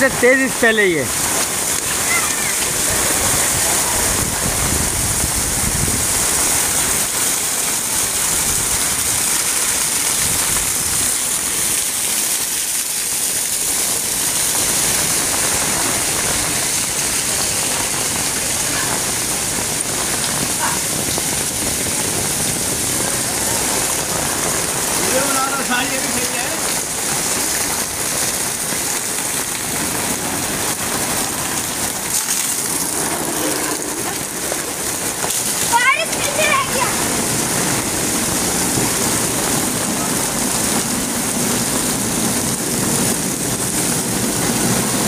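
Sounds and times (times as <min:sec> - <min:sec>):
heavy rain hissing: 0:00.0 - 0:45.0
water pouring off roof: 0:00.0 - 0:45.0.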